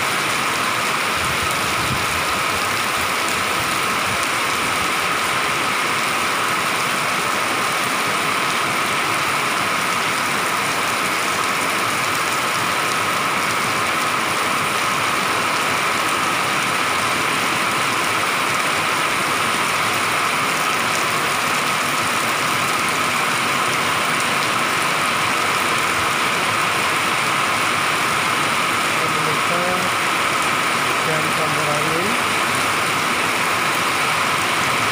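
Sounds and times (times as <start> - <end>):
heavy rain on roofs and pavement: 0.0 - 34.9.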